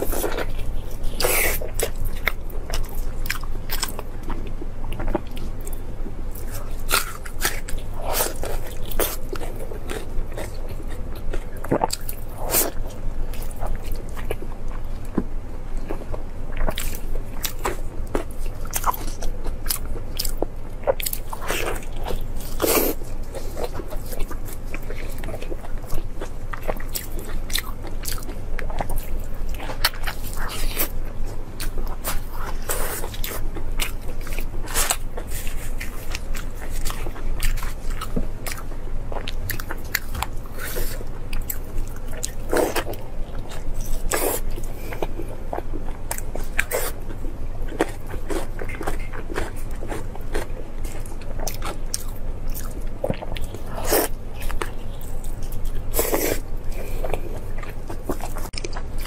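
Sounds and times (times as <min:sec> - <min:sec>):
person chewing soft meat: 0:00.0 - 0:59.0
steady low hum: 0:00.0 - 0:59.0.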